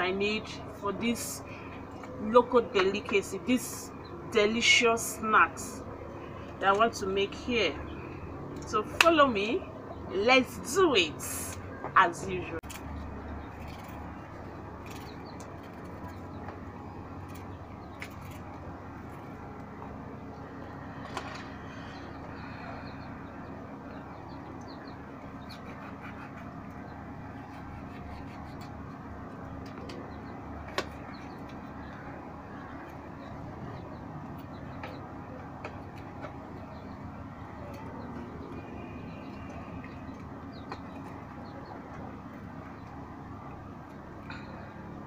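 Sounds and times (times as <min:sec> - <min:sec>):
outdoor background hum: 0:00.0 - 0:45.0.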